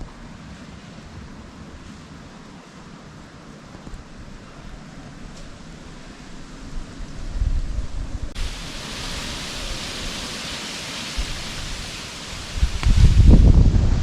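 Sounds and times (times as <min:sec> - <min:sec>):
hiss of wind-driven rain: 0:00.0 - 0:14.0
wind gusts buffeting microphone: 0:00.0 - 0:14.0.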